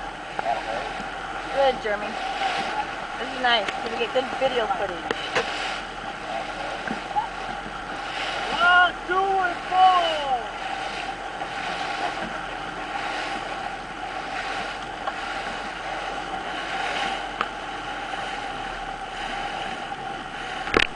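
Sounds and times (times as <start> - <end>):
motorboat engine drone: 0.0 - 20.9
water rushing: 0.0 - 20.9.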